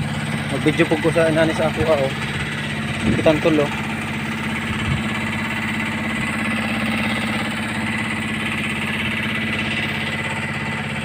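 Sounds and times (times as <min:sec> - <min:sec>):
small boat engine humming: 0:00.0 - 0:11.0.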